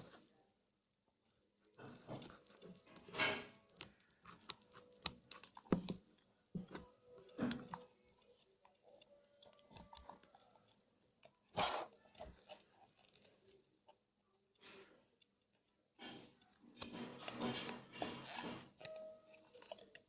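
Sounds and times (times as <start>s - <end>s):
slime squelching: 1.3s - 20.0s.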